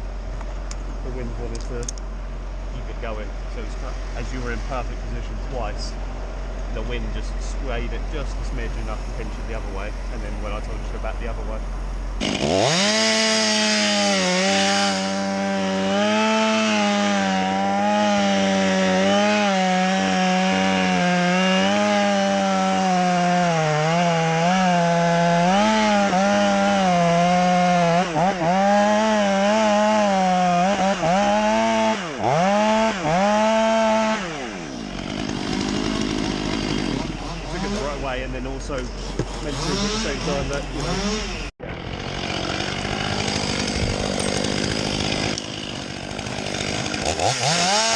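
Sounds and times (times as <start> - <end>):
chainsaw cutting: 0.0 - 47.9.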